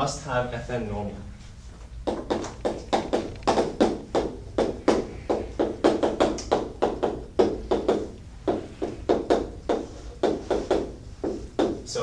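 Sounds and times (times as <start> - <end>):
chalk tapping on blackboard: 2.0 - 11.9.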